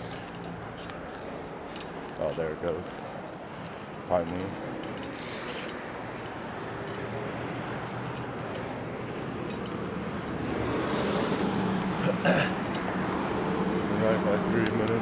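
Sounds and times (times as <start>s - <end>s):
car approaching: 0.0s - 15.0s
freeway traffic: 0.0s - 15.0s.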